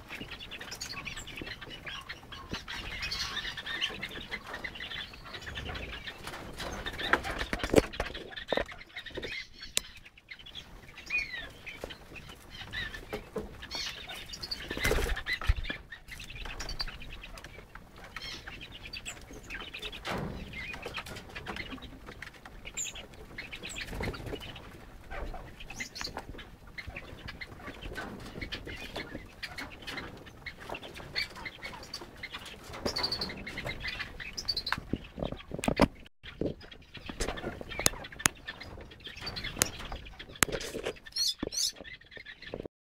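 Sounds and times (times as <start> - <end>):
birds rustling and pecking: 0.0 - 42.7.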